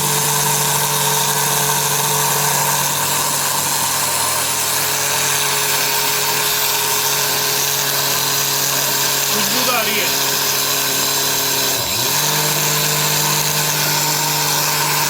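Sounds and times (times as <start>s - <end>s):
mixer grinder grinding spices: 0.0s - 15.0s.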